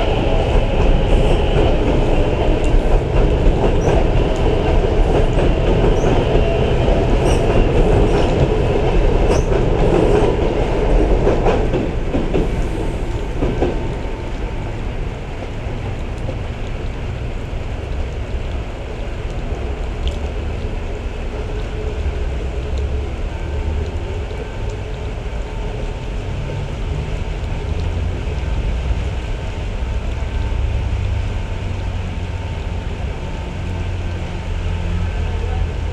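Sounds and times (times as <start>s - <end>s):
electric train running past: 0.0s - 19.8s, 20.4s - 35.9s.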